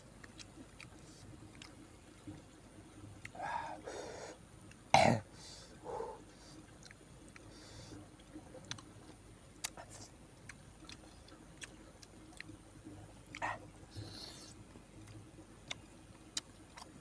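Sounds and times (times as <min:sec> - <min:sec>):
mouth clicks and lip smacks chewing: 0:00.1 - 0:03.8, 0:06.0 - 0:17.0.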